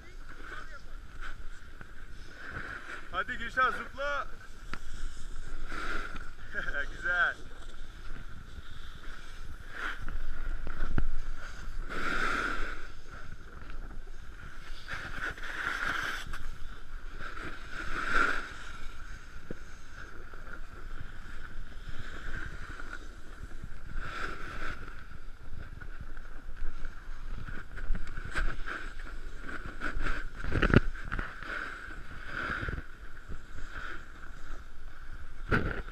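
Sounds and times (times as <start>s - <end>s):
snowboard scraping over snow: 0.0s - 35.9s.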